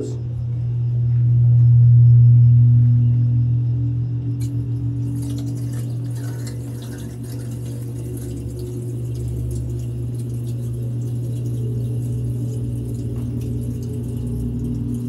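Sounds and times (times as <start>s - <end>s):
well pump humming: 0.0s - 15.0s.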